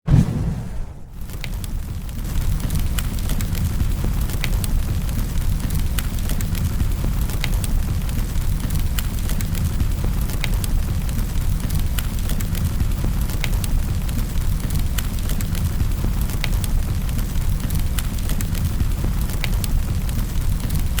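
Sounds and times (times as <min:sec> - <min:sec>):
fire flames rumbling: 0:00.0 - 0:21.0
burning wood crackling and popping: 0:00.1 - 0:21.0.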